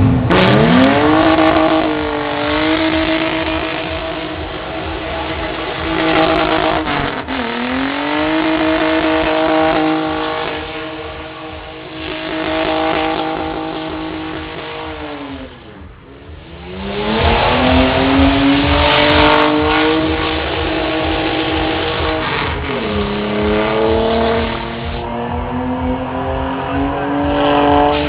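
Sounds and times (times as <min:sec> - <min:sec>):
car engine revving high: 0:00.0 - 0:28.0.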